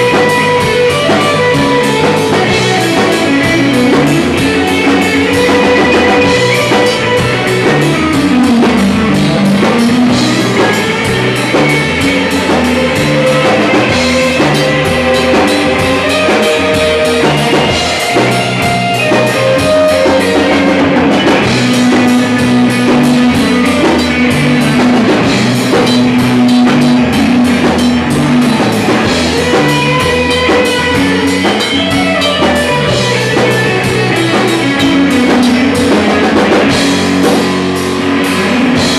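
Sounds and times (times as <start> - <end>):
drum kit: 0.0 - 38.9
guitar: 0.0 - 38.9
live band playing rock music: 0.0 - 38.9.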